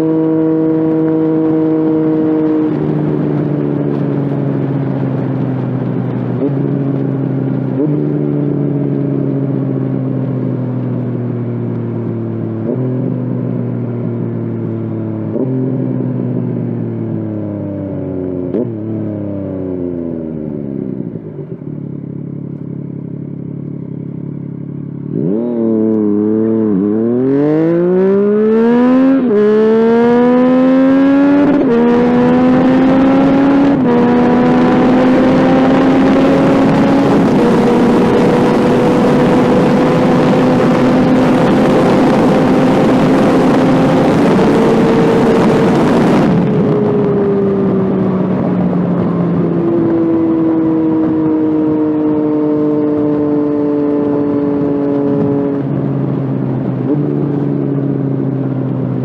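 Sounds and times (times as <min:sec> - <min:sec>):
wind noise: 0:00.0 - 0:19.4, 0:25.2 - 0:59.0
motorcycle engine revving: 0:00.0 - 0:59.0.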